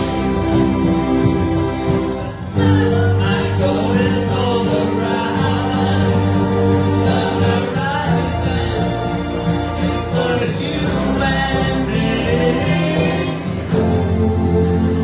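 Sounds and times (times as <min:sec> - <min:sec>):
guitar playing: 0:00.0 - 0:15.0
people singing: 0:02.2 - 0:15.0.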